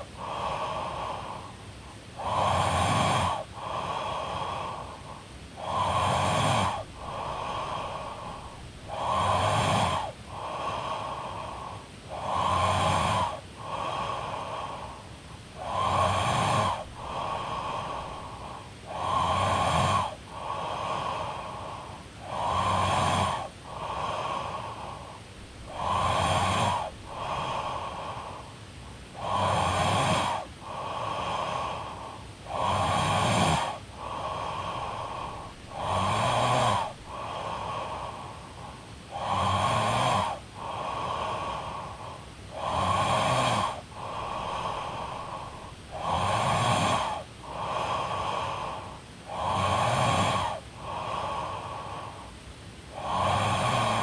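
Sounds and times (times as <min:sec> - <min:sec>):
woman snoring: 0:02.2 - 0:28.5, 0:29.2 - 0:52.2, 0:52.9 - 0:54.0.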